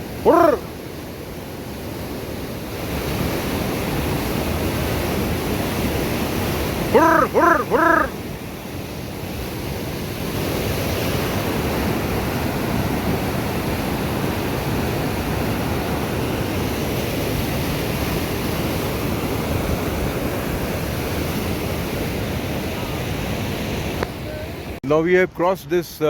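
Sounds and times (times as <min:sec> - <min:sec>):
fast river rushing: 0:00.0 - 0:24.8.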